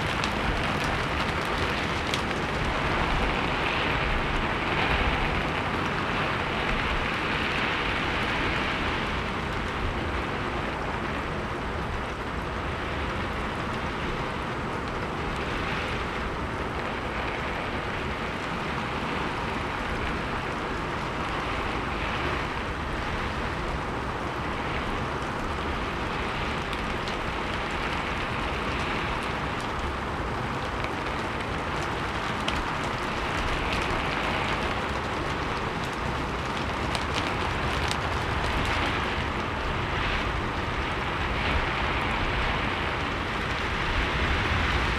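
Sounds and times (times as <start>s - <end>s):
heavy rain on a roof: 0.0s - 44.9s.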